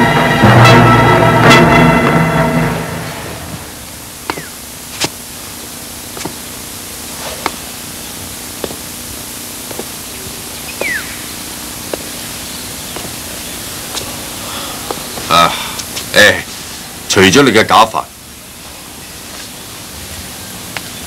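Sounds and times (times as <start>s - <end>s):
steady tape hiss: 0.0s - 21.0s.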